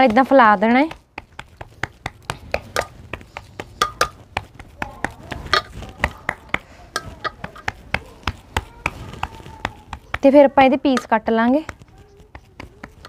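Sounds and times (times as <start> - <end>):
hands patting mixture on a plate: 0.0 - 13.0.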